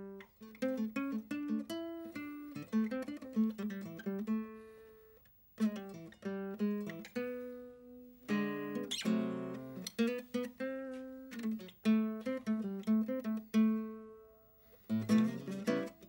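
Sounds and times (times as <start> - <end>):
acoustic guitar picking: 0.0 - 16.0.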